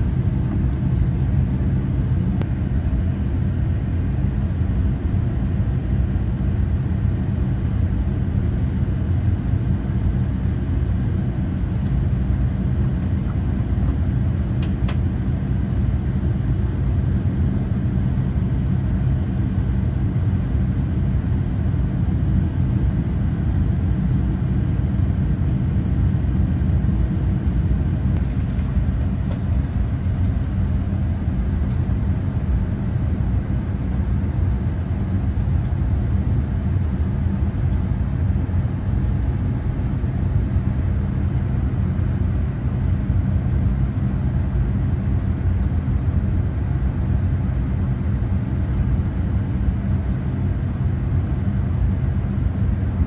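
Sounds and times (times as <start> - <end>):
aircraft cabin engine rumble: 0.0 - 53.0.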